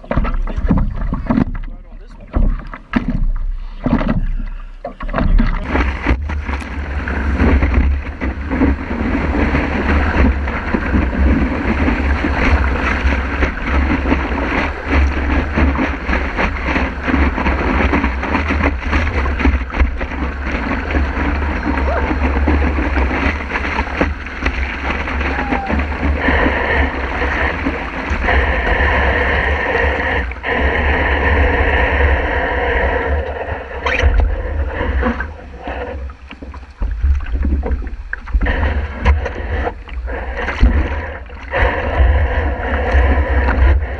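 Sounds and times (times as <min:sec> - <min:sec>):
heavy wind on microphone: 0:00.0 - 0:43.9
water rushing and splashing: 0:00.0 - 0:43.9.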